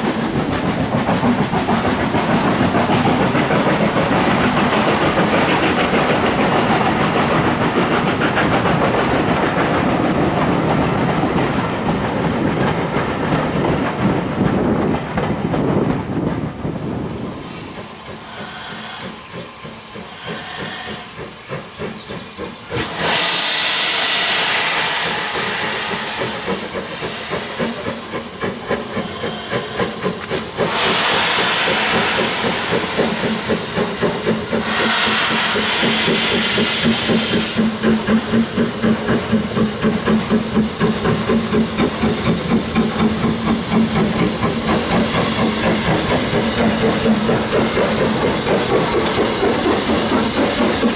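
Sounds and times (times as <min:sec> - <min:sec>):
steam hissing bursts: 0:00.0 - 0:11.4, 0:16.8 - 0:50.9.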